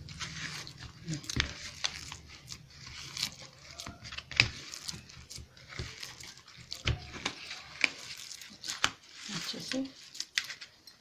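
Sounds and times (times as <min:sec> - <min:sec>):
hands kneading sticky dough: 0:00.0 - 0:11.0.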